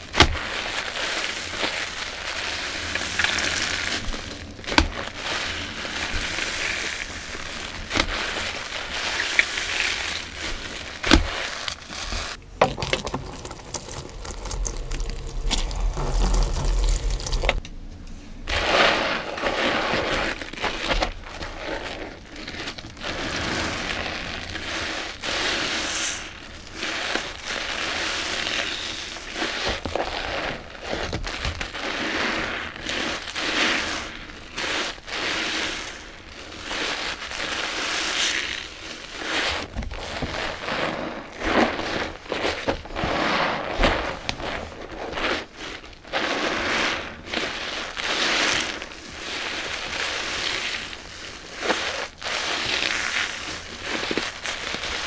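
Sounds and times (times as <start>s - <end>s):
wet sponges squelching in suds: 0.0s - 17.6s, 18.5s - 55.0s.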